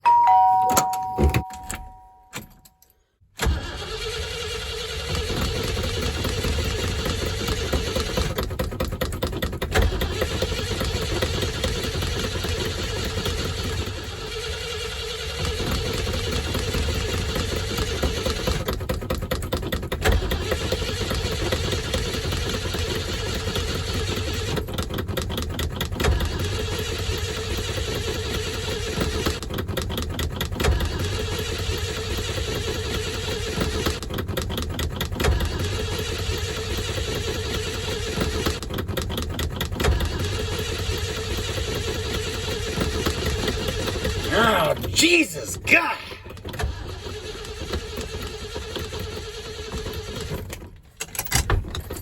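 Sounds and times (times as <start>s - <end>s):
car engine starting and clattering: 0.1s - 2.8s, 3.4s - 44.9s, 46.3s - 52.0s.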